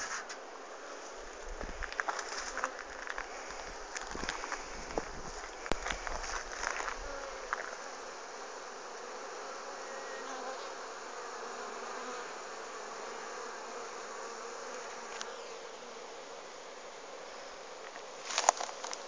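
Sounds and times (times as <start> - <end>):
bee swarm buzzing: 0.0 - 19.0.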